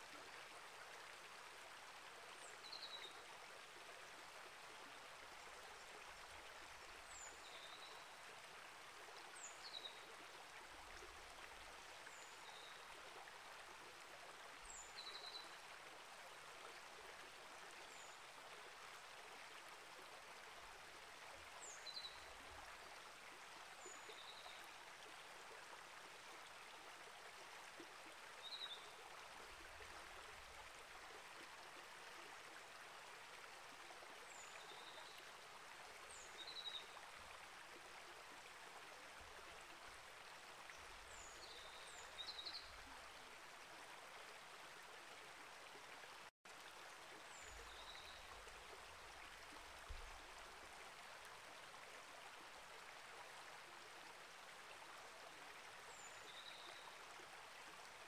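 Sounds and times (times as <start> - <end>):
creek flowing: 0.0 - 58.0.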